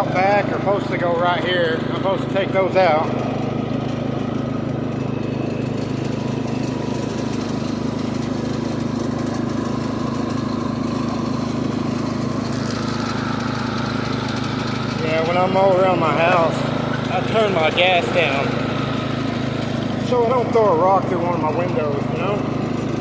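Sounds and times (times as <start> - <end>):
riding lawn mower engine cutting grass: 0.0 - 23.0.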